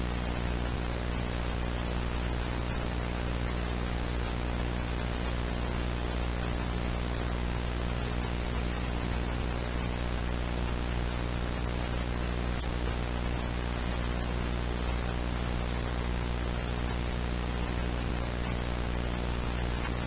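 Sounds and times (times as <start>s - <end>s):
low electrical hum: 0.0s - 20.0s
steady static hiss: 0.0s - 20.0s.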